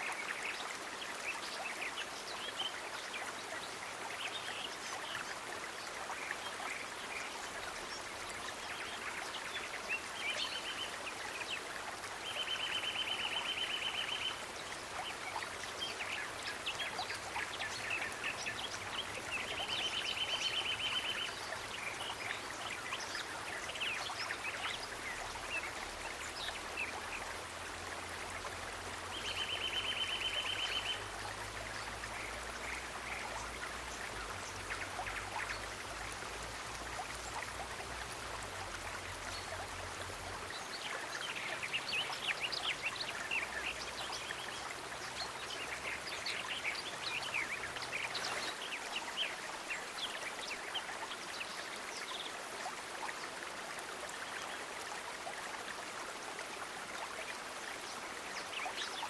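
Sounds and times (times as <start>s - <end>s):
flowing water: 0.0s - 59.0s.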